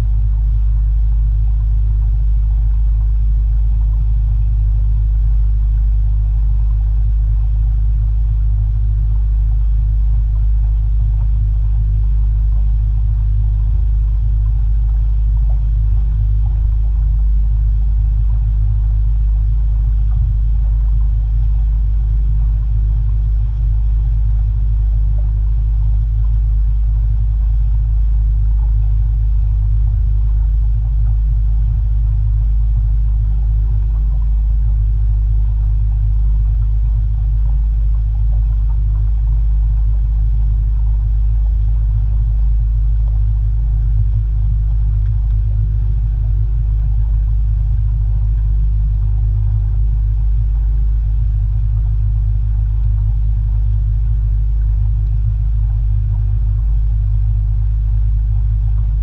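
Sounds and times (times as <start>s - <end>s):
motorboat engine rumbling: 0.0s - 59.0s.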